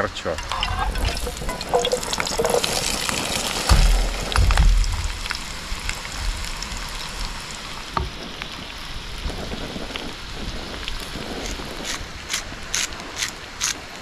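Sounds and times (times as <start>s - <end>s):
low bumps: 0.0s - 11.4s
potatoes sizzling in hot oil: 0.4s - 12.4s.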